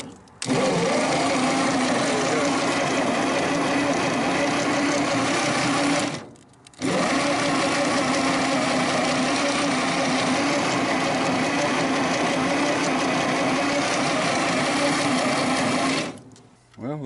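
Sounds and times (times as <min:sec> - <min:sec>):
starter motor cranking engine: 0:00.0 - 0:16.4.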